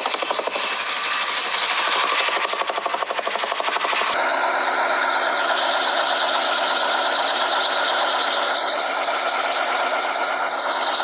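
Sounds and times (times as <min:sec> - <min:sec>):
helicopter rotor clatter: 0:00.0 - 0:11.0.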